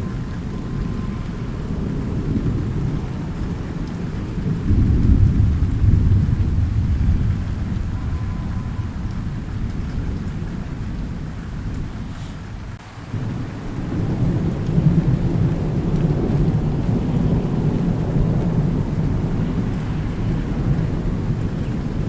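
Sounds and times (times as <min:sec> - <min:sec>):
rolling thunder: 0:00.0 - 0:22.0
steady rain: 0:00.0 - 0:22.0.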